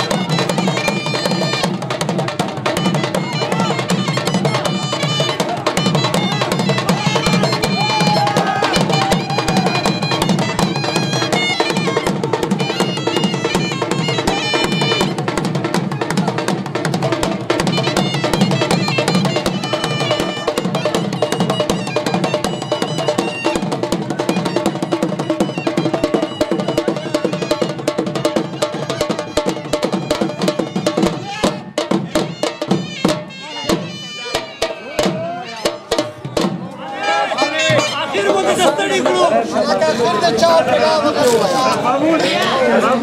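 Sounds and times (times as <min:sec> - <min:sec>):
fast drumbeat: 0:00.0 - 0:36.7, 0:37.4 - 0:43.0
reedy wind instrument melody: 0:00.0 - 0:43.0.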